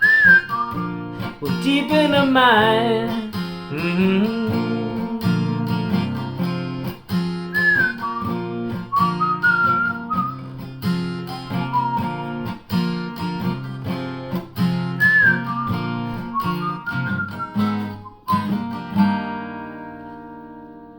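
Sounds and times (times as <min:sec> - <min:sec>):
whistled melody: 0:00.0 - 0:13.5, 0:14.6 - 0:19.8
strummed acoustic guitar: 0:00.0 - 0:20.9.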